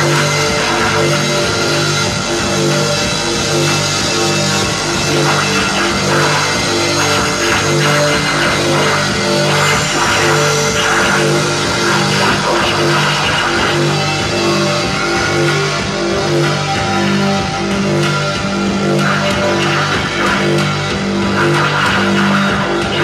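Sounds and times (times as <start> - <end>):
bass guitar riff: 0.0 - 23.0
drums: 0.0 - 23.0
electric guitar: 0.0 - 23.0.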